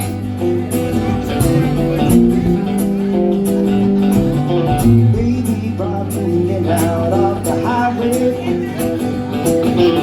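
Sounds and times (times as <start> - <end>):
live country-rock band playing: 0.0 - 10.0.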